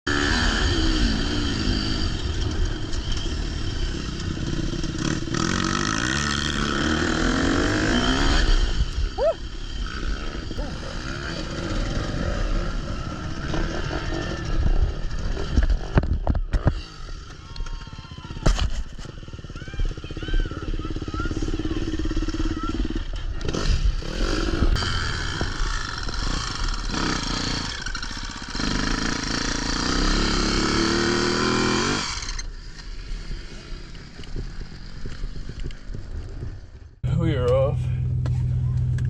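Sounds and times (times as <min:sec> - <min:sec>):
dirt bike engine revving: 0:00.1 - 0:36.7.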